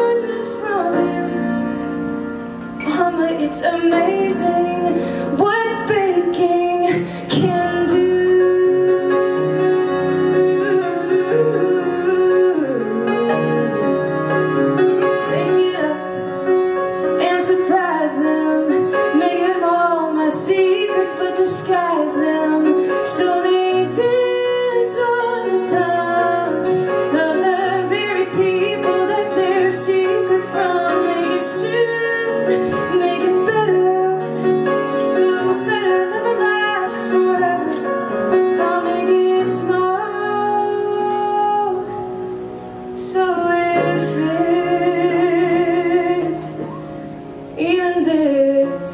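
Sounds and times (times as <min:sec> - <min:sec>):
grand piano: 0:00.0 - 0:48.9
woman singing into a microphone: 0:00.0 - 0:48.9.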